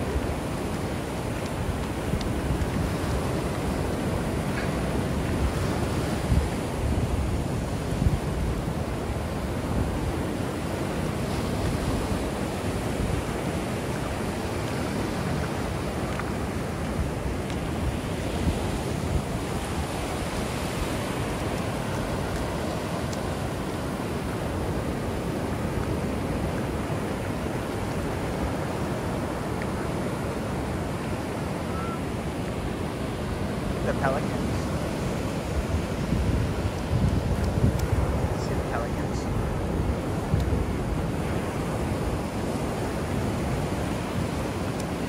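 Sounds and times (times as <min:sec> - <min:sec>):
ocean surf breaking: 0:00.0 - 0:45.0
wind buffeting microphone: 0:00.0 - 0:45.0.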